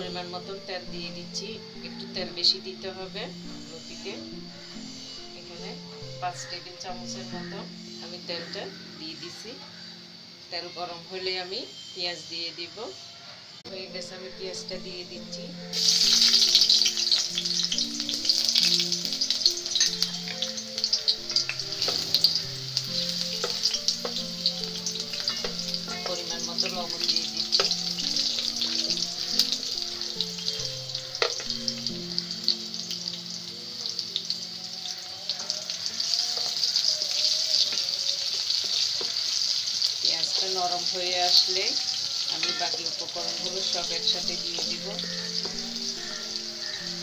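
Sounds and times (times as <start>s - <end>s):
onion sizzling in hot oil: 0.0s - 47.0s.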